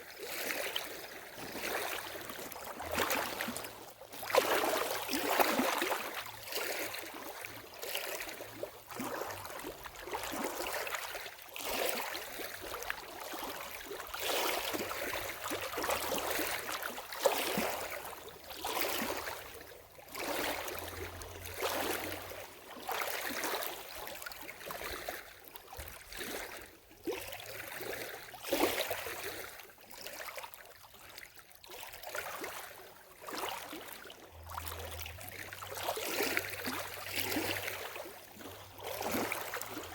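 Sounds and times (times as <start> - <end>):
lake water lapping at shoreline: 0.0 - 39.9.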